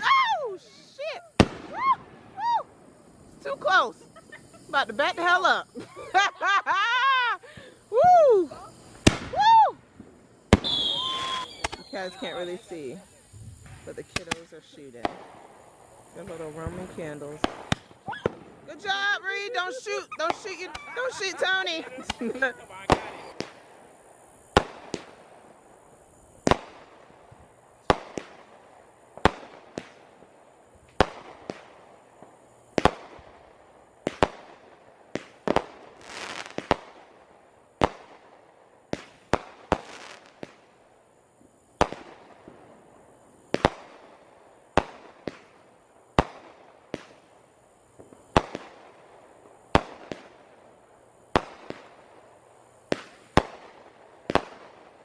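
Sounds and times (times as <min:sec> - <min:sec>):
firework hiss: 0:00.0 - 0:55.0.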